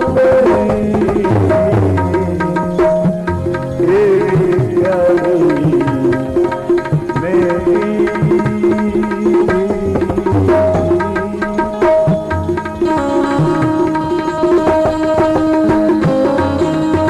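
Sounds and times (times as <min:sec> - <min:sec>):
tabla rhythm: 0:00.0 - 0:17.0.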